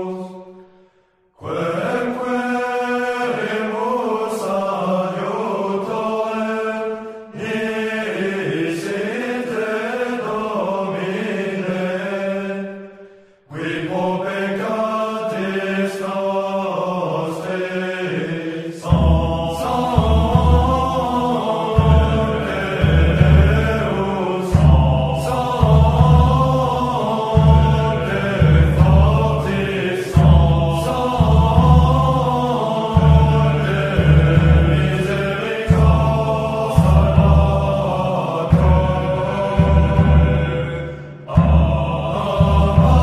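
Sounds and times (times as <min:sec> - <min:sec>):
many voices singing a hymn: 0:00.0 - 0:00.8, 0:01.4 - 0:43.0.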